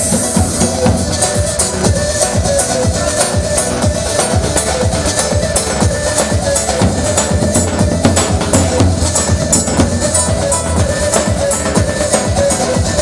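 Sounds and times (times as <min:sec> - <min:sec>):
electronic kick drum beat: 0:00.0 - 0:13.0
keyboard melody: 0:00.0 - 0:13.0.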